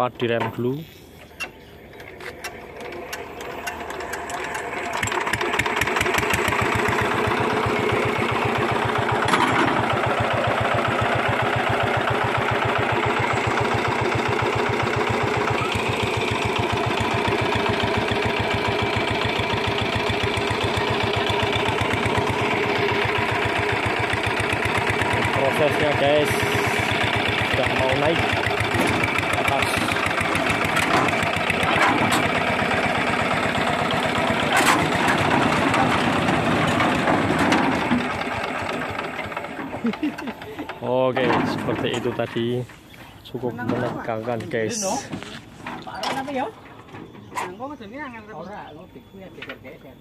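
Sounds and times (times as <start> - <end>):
diesel engine starting and running: 0.0 - 50.0.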